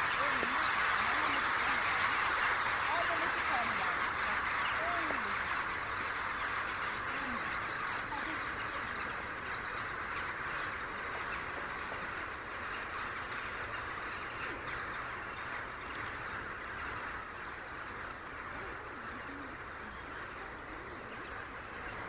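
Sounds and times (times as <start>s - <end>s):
starlings chattering and twittering: 0.0s - 22.0s.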